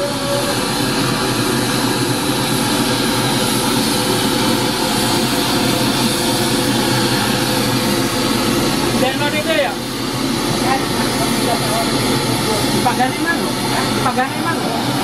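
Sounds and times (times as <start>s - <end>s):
rushing test noise from loudspeaker: 0.0s - 15.0s.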